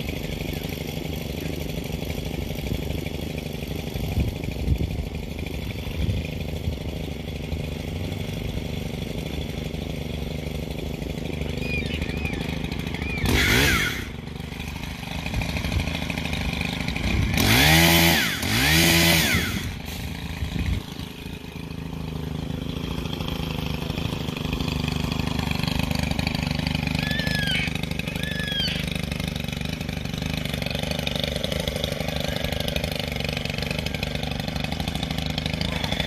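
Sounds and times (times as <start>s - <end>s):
pole saw engine revving: 0.0s - 36.0s.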